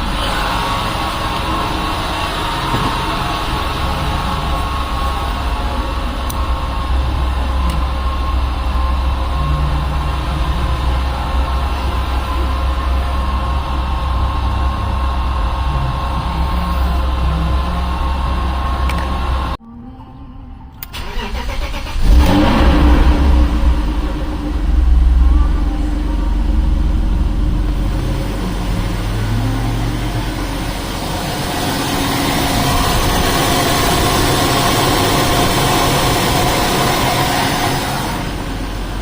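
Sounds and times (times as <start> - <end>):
car engine starting and idling: 0.0 - 39.0.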